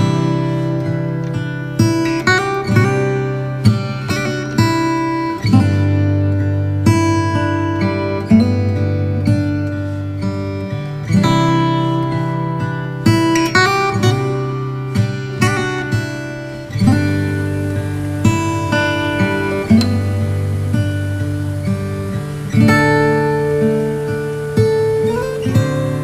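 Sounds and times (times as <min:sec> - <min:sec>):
acoustic guitar plucked chords: 0:00.0 - 0:26.0.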